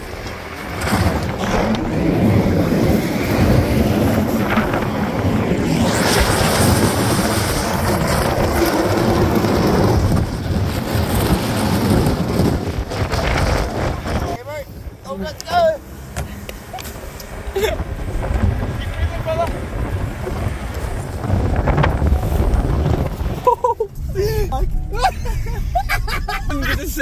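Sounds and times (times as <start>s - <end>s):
tow rumbling over ground: 0.0s - 16.4s, 17.0s - 27.0s
vehicle driving: 0.0s - 27.0s
wind buffeting microphone: 0.0s - 27.0s.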